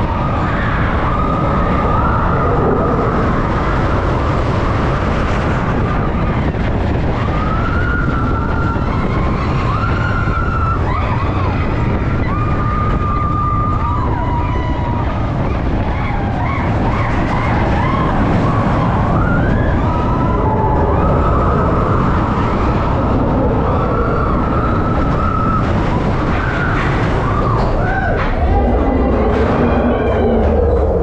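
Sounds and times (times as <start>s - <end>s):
riders screaming and whooping: 0.0s - 31.0s
roller coaster track rumble: 0.0s - 31.0s
wind rushing: 0.0s - 31.0s.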